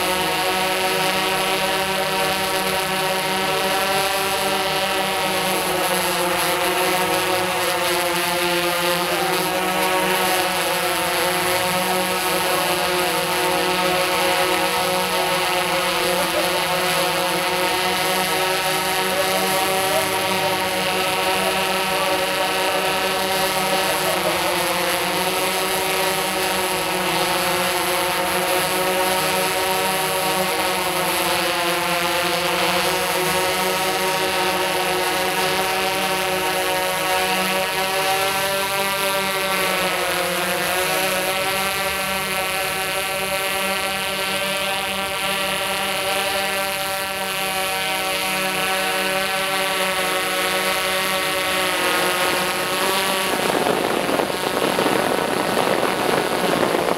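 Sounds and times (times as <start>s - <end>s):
drone motors buzzing: 0.0s - 56.9s.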